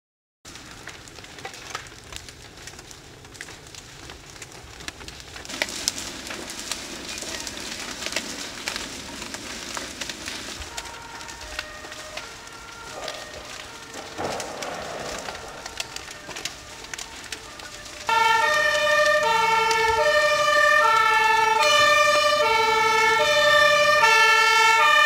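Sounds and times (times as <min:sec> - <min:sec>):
burning timber crackling and popping: 0:00.4 - 0:25.0
rush of flames: 0:00.5 - 0:25.0.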